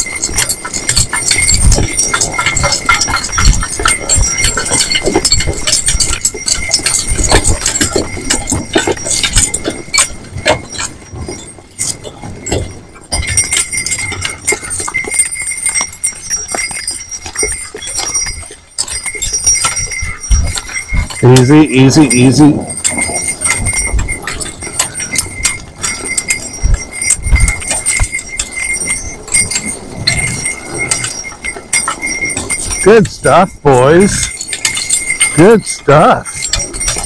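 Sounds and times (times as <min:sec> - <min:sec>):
harness jingling and clinking: 0:00.0 - 0:37.0
horse hooves clip-clopping on snow: 0:00.0 - 0:37.0.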